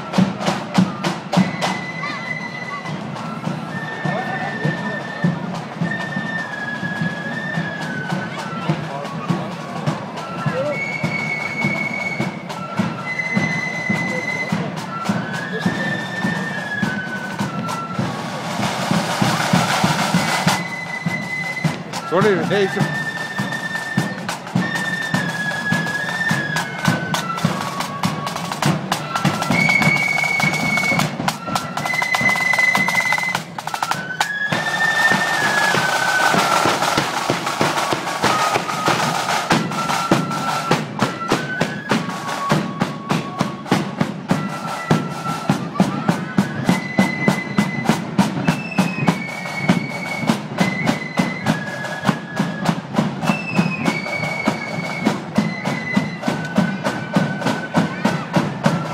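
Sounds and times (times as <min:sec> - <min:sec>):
flutes playing melody: 0:00.0 - 0:58.9
rapid snare drumming: 0:03.0 - 0:58.9.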